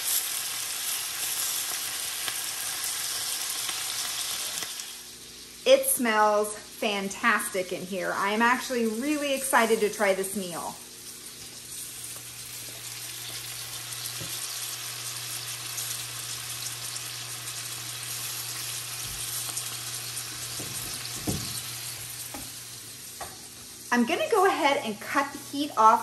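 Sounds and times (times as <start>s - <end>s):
meat sizzling in a skillet: 0.0s - 26.0s.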